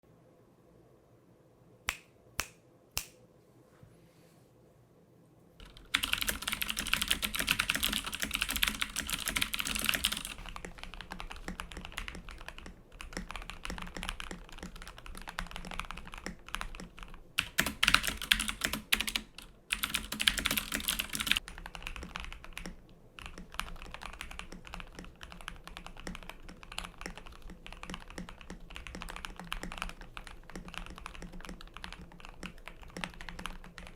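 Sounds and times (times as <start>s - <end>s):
mechanical keyboard typing: 5.6s - 33.9s.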